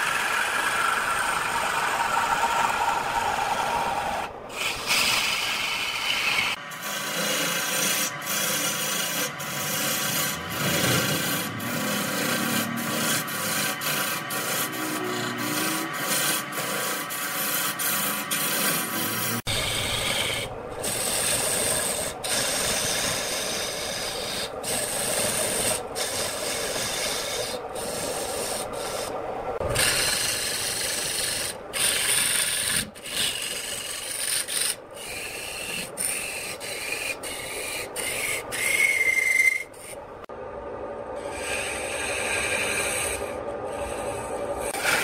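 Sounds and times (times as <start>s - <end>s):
high-pitched squeal: 0.0s - 40.3s, 41.1s - 45.0s
lathe tool scraping wood: 0.0s - 40.3s, 41.2s - 45.0s.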